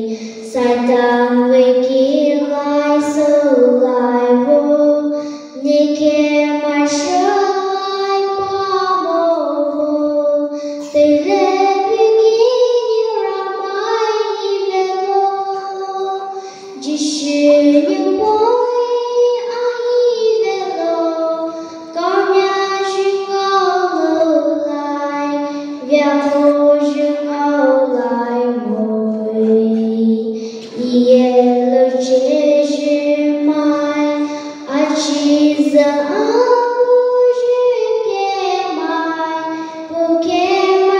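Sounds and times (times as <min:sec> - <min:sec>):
girl singing into microphone: 0:00.0 - 0:40.9.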